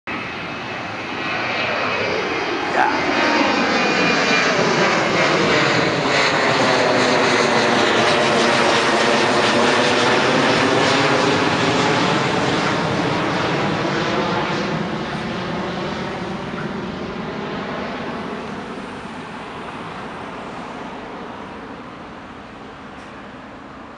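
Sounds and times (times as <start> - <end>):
jet engine roar: 0.1 - 23.9.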